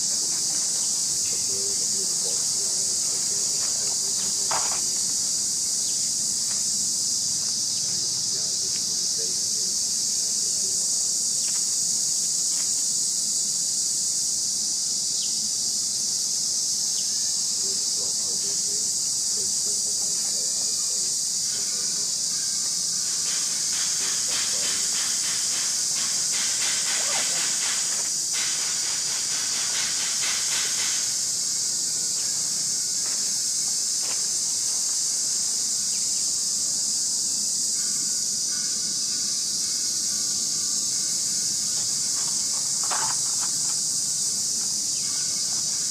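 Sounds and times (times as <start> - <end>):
fast insect ticking: 0.0 - 45.9
high-pitched insect chorus: 0.0 - 45.9.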